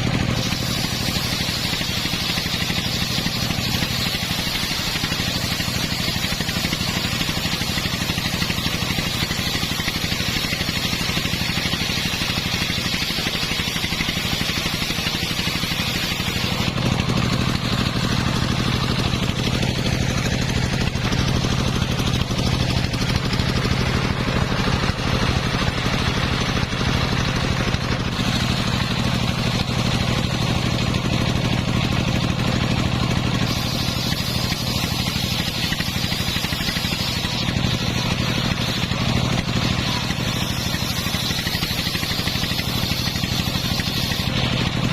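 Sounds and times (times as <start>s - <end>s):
saw blade hissing: 0.0s - 44.9s
sawmill engine hum: 0.0s - 44.9s.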